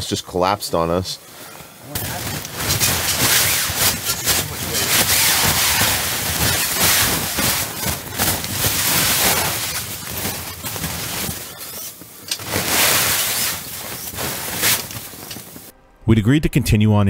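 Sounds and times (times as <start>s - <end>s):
snow sliding off fabric roof: 0.0s - 15.7s
fabric rustle: 1.2s - 15.7s.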